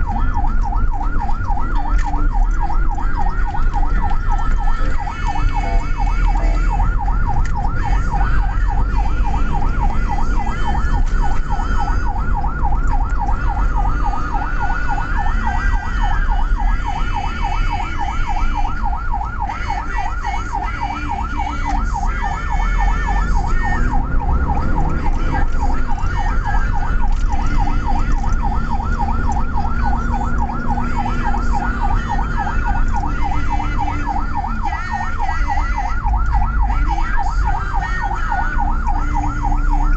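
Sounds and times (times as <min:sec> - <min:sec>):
ambulance siren yelping: 0:00.0 - 0:39.9
engine and road rumble: 0:00.0 - 0:39.9.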